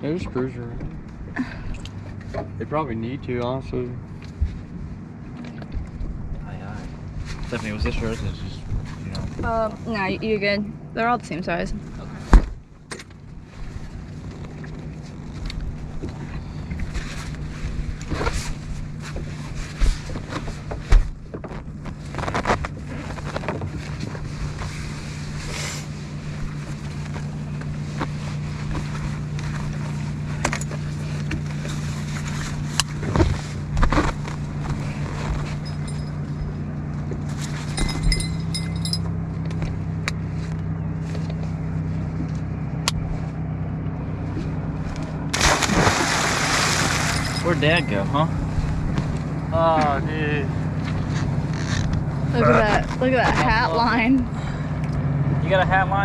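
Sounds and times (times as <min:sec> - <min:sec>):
boat motor running: 0:00.0 - 0:56.0.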